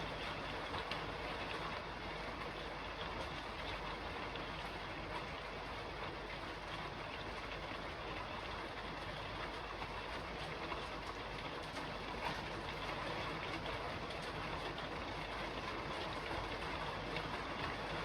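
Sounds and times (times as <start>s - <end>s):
rain falling on a roof: 0.0s - 18.0s.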